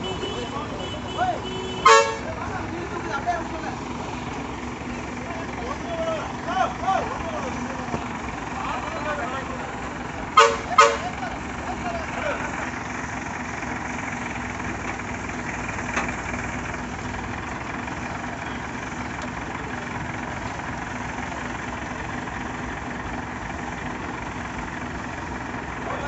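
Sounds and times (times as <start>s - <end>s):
heavy vehicle engine idling: 0.0s - 26.0s.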